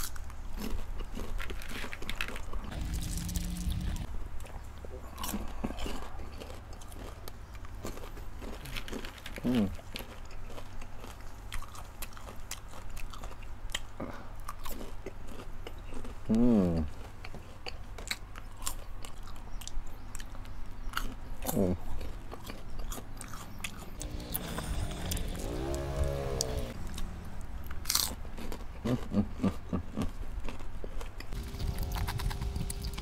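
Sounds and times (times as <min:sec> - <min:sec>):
crunching crisp snacks: 0:00.0 - 0:33.0.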